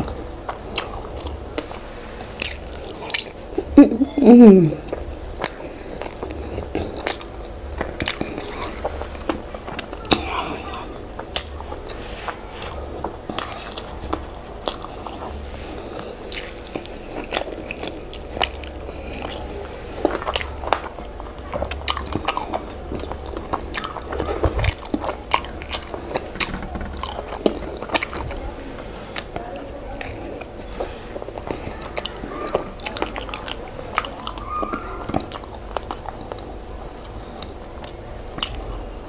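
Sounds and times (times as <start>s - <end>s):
person chewing: 0.0s - 39.0s.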